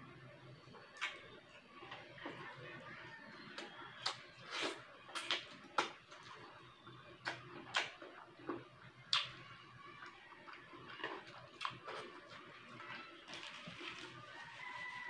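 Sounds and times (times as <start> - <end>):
open-mouthed chewing: 0.7 - 15.0.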